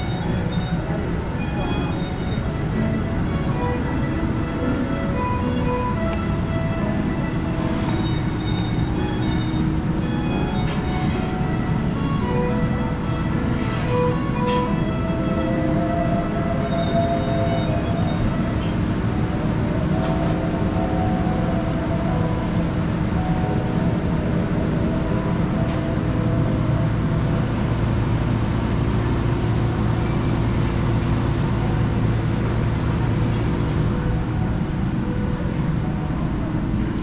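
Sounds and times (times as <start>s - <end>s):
furnace rumble and hiss: 0.0s - 37.0s.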